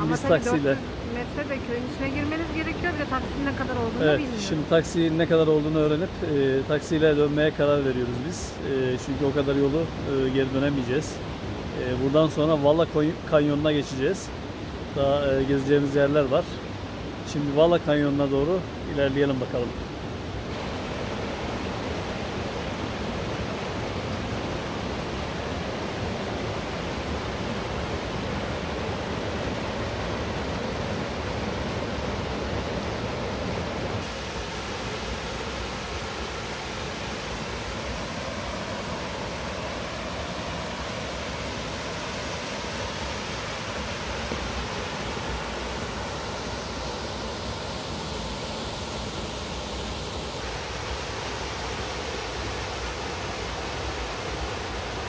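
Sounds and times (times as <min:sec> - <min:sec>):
rushing falling water: 0:00.0 - 0:55.0.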